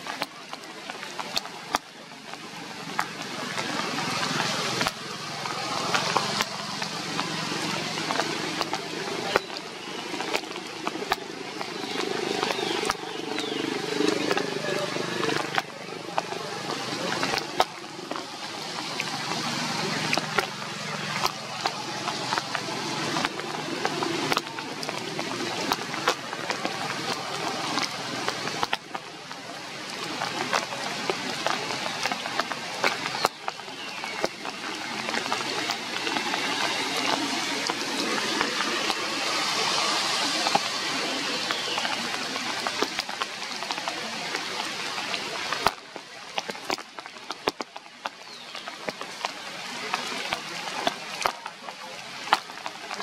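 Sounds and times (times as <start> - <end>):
drip taps: 0.0 - 53.0
rain hissing on foliage: 0.0 - 53.0.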